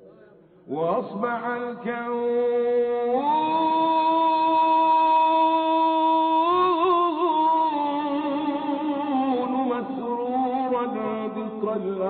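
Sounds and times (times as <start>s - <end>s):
man chanting: 0.7s - 12.0s.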